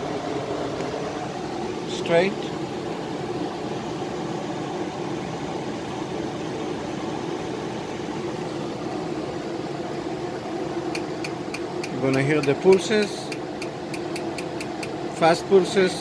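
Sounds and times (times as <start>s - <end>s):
machine hum with fan whir: 0.0s - 16.0s.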